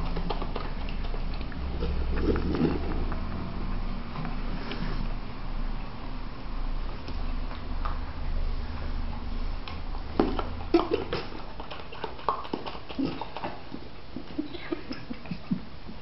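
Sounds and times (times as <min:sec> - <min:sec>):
dogs chewing wetly: 0:00.0 - 0:04.5, 0:06.8 - 0:16.0.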